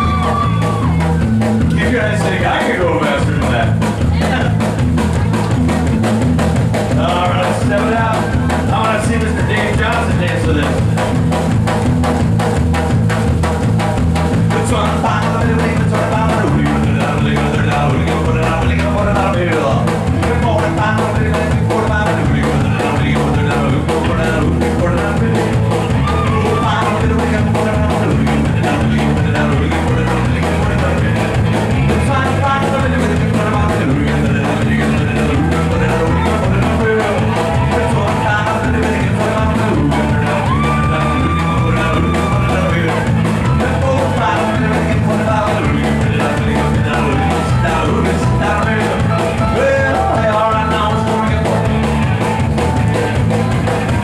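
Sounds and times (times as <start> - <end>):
person singing: 0.0 - 5.9, 6.9 - 11.1, 14.4 - 54.0
live rock band playing: 0.0 - 54.0.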